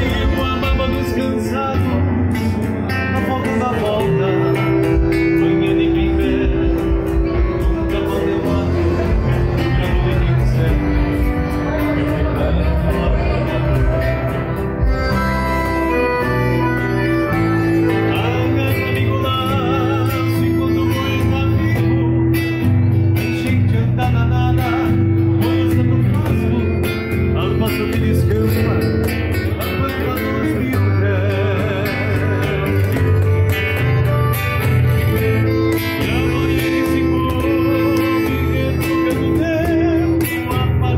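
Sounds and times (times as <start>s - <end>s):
piano accordion chords: 0.0s - 28.8s, 29.5s - 40.9s
electric bass: 0.0s - 40.9s
nylon-string guitar: 0.0s - 40.9s.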